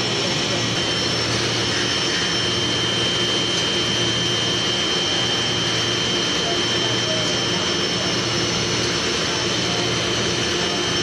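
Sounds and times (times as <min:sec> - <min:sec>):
high-pitched machine whine: 0:00.0 - 0:11.0
low machine hum: 0:00.0 - 0:11.0.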